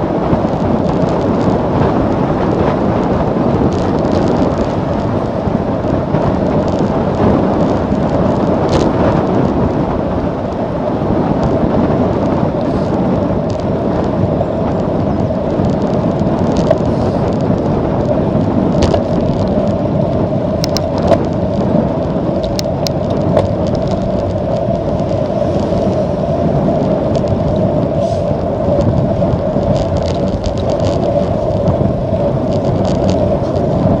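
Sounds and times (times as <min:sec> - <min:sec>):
bicycle tyre noise: 0:00.0 - 0:34.0
wind rushing over microphone: 0:00.0 - 0:34.0.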